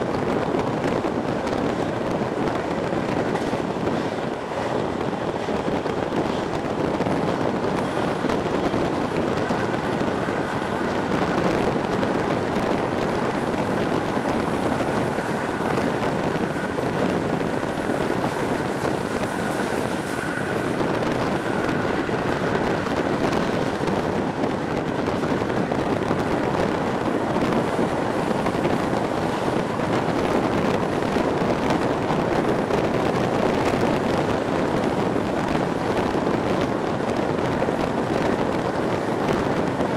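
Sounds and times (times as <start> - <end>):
train wheels rumbling on track: 0.0 - 39.9
wind rushing over microphone: 0.0 - 39.9.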